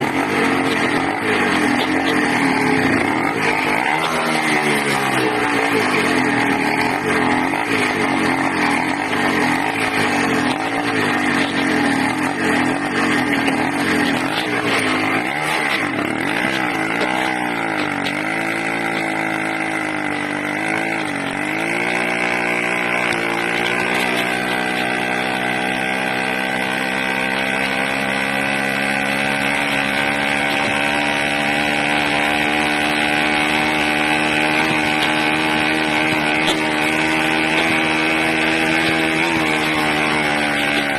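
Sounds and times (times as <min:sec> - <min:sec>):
small engine surging: 0:00.0 - 0:40.9.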